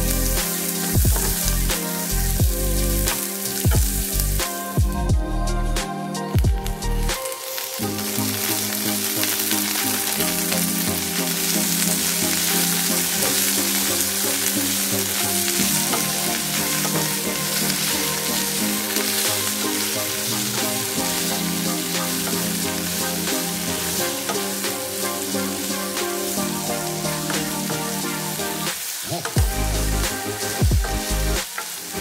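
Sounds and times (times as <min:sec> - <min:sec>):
leaves sizzling in hot oil: 0:00.0 - 0:04.8, 0:06.3 - 0:32.0.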